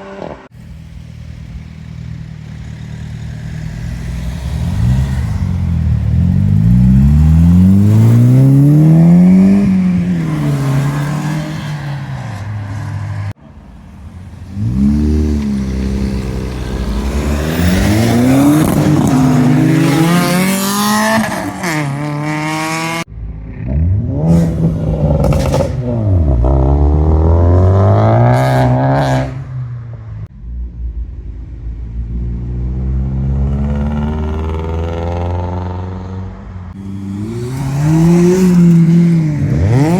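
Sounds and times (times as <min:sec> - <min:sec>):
car engines revving and accelerating: 0:00.0 - 0:39.9.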